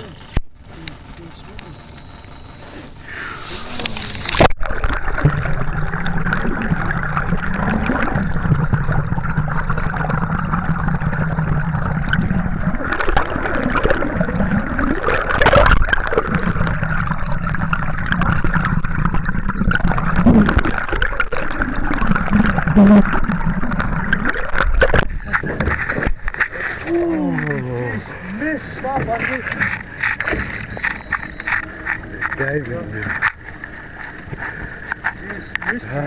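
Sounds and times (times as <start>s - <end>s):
boat motor hum underwater: 0.0s - 36.0s
underwater gurgling: 0.0s - 36.0s.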